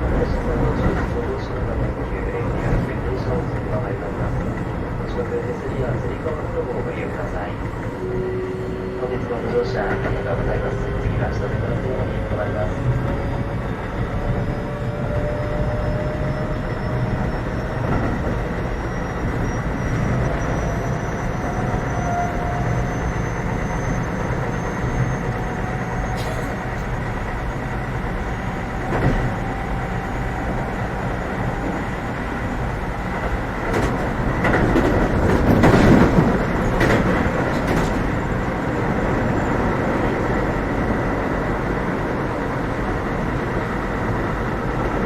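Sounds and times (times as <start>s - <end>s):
train wheel and track rumble: 0.0s - 45.0s.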